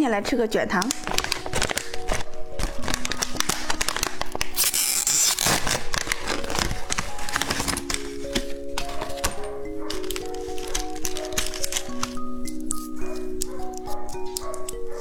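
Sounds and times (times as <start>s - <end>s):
soft background music: 0.0s - 15.0s
candy wrapper crinkling: 0.5s - 15.0s
wrapper tearing: 0.8s - 15.0s.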